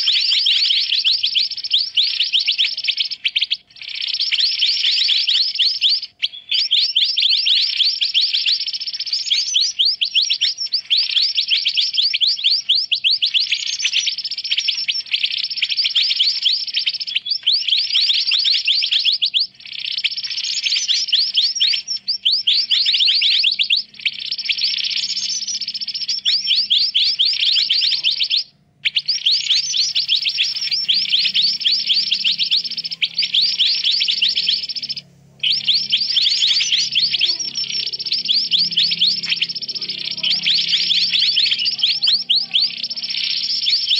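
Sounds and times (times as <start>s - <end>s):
rapid high bird chirps: 0.0s - 43.9s.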